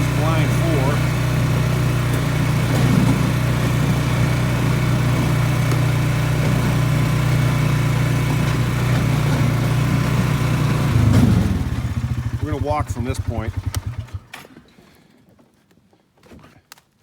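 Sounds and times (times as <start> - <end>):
atv engine running: 0.0 - 14.6.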